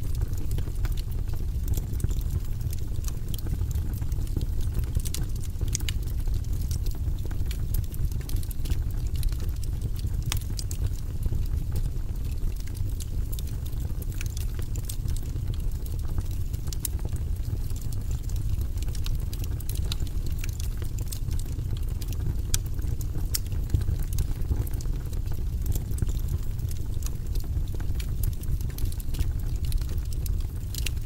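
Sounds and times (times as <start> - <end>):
low fire rumble: 0.0 - 31.0
wood fire crackling: 0.0 - 31.0.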